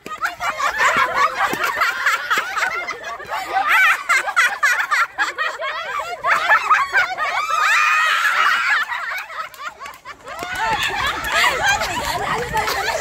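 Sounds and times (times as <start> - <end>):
women laughing and shrieking: 0.0 - 13.0.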